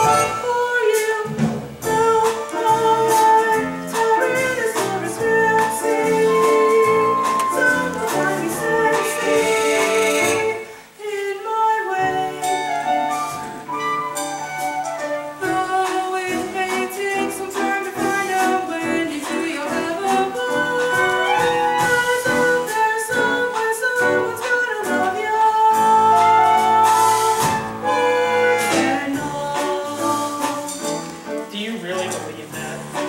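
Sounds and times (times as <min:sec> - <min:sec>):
instrumental accompaniment: 0:00.0 - 0:11.0, 0:11.8 - 0:33.0
person singing: 0:00.0 - 0:13.4, 0:15.2 - 0:33.0.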